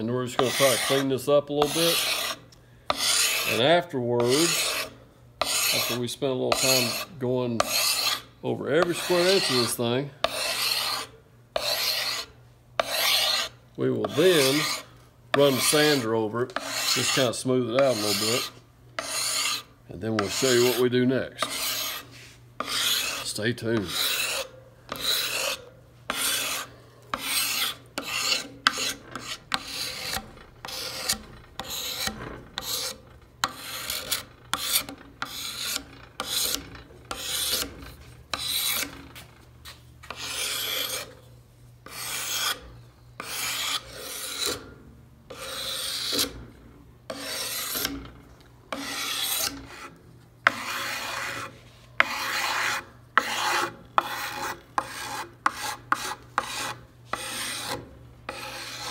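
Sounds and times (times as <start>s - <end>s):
draw knife scraping wood: 0.0s - 39.3s, 40.0s - 41.2s, 41.8s - 44.7s, 45.3s - 46.5s, 47.1s - 58.9s.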